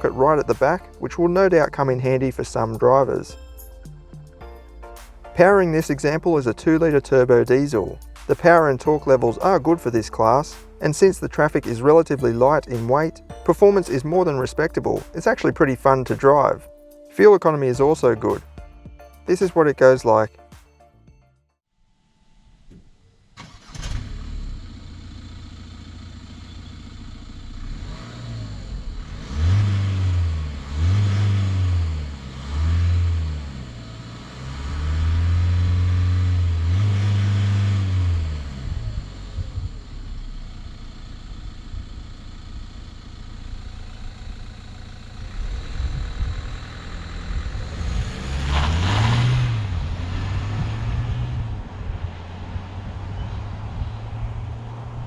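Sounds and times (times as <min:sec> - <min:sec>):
diesel engine starting and revving: 0:00.0 - 0:20.3, 0:23.2 - 0:55.0.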